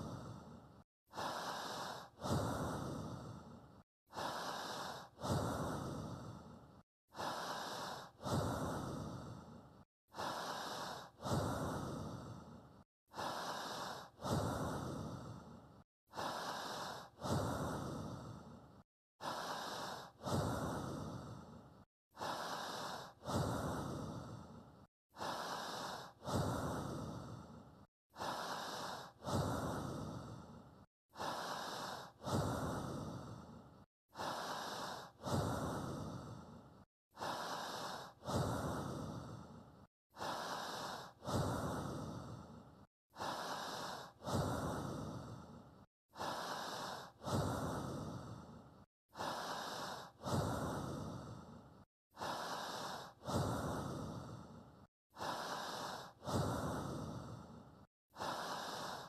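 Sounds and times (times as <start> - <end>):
slow even breathing: 0.0 - 59.0.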